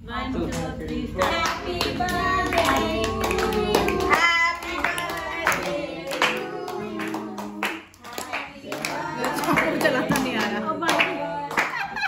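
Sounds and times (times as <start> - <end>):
people singing birthday song: 0.0 - 12.0
people clapping along: 0.4 - 12.0.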